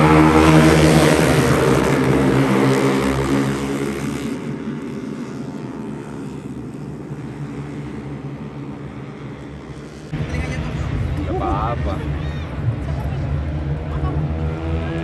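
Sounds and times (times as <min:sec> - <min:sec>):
motor engine droning: 0:00.0 - 0:15.0.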